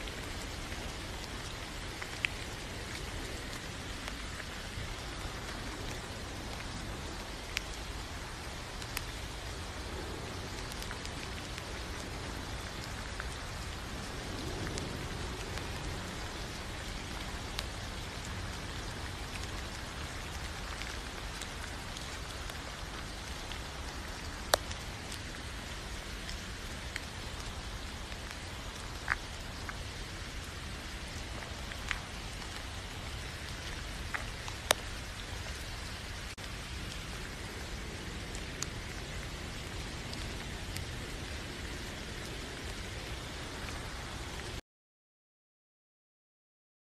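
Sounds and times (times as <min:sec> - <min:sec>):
rain-like hiss: 0:00.0 - 0:44.6.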